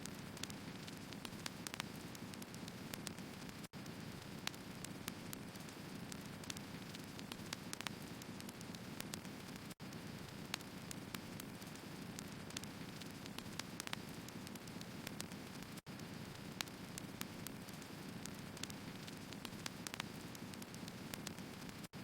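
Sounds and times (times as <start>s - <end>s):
logs crackling and popping: 0.0s - 22.0s
fire hissing and rumbling: 0.1s - 22.0s.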